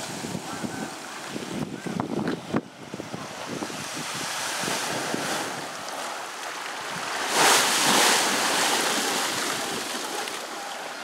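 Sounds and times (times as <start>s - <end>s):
wind blowing over microphone: 0.0s - 10.7s
waves lapping against wall: 0.0s - 11.0s.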